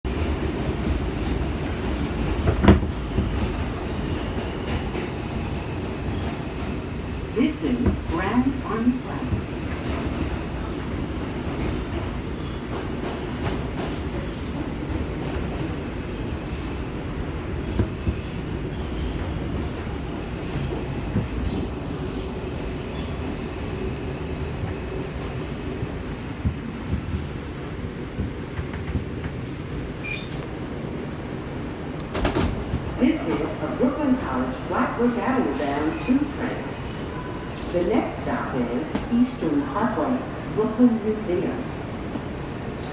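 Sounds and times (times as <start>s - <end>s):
subway car low rumble: 0.0s - 42.9s.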